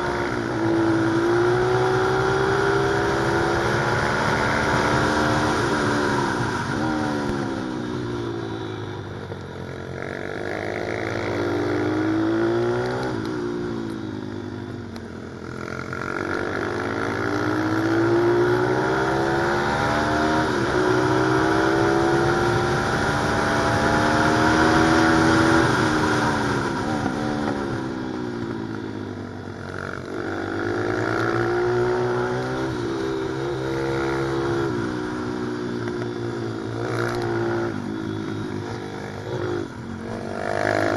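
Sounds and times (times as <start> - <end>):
motorbike engine revving: 0.0 - 9.0, 15.5 - 28.6, 29.6 - 40.9.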